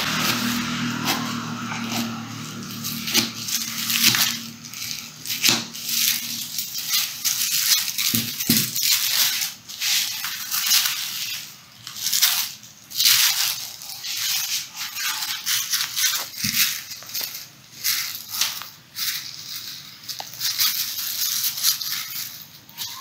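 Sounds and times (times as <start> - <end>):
plastic bag crinkling: 0.0 - 23.0
scissors cutting plastic: 0.0 - 23.0.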